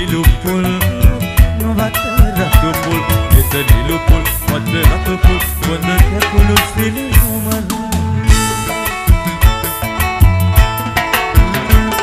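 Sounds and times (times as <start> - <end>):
drum kit: 0.0 - 12.0
electric guitar: 0.0 - 12.0
heavy bass beat: 0.0 - 12.0.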